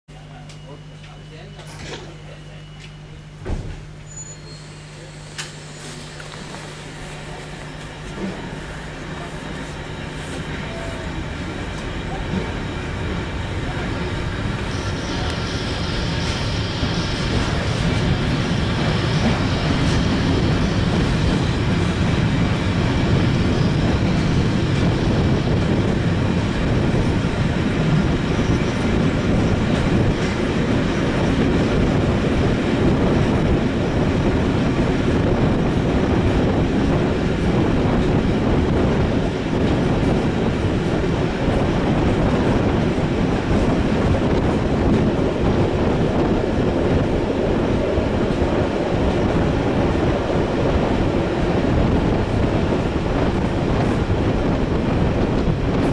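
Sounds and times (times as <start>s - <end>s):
train rumbling along track: 0.1s - 55.9s.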